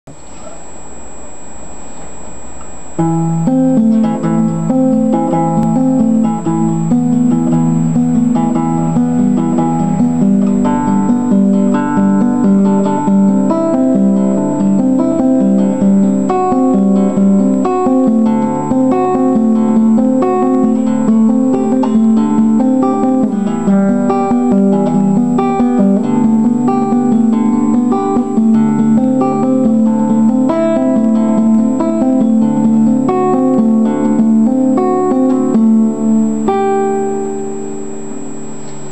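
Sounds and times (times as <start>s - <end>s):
fingerstyle classical guitar: 0.1s - 38.9s.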